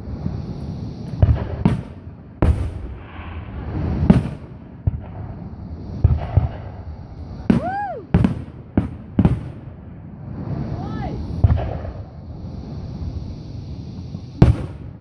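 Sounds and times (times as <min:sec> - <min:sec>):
firework shells booming: 0:00.0 - 0:15.0.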